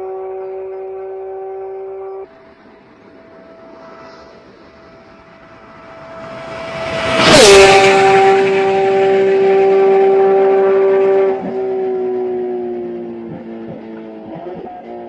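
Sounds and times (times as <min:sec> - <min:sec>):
race car engine fly-by: 0:00.6 - 0:15.0.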